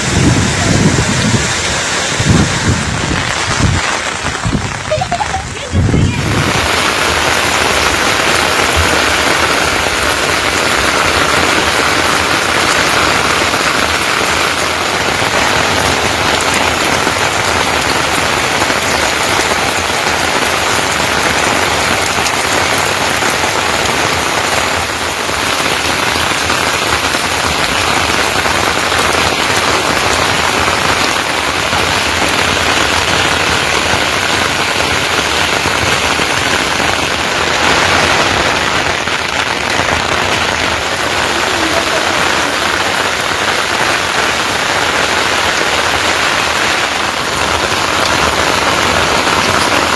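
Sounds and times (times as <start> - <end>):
loud steady rain: 0.0 - 49.9.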